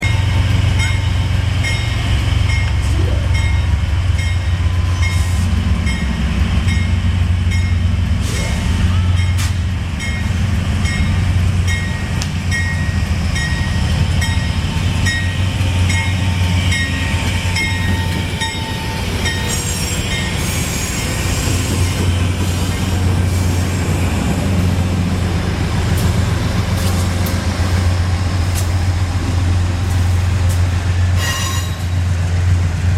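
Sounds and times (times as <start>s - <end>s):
diesel locomotives rumbling: 0.0s - 32.9s.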